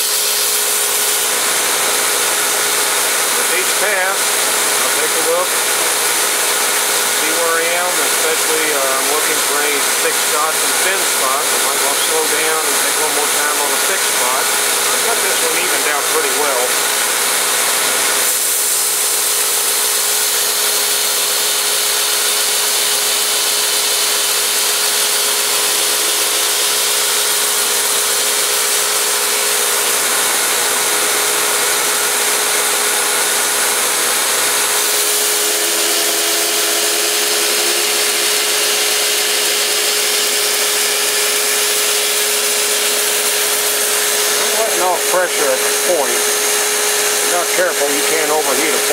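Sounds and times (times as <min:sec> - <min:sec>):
belt grinder grinding steel: 0:00.0 - 0:48.9
motor hum: 0:00.0 - 0:48.9.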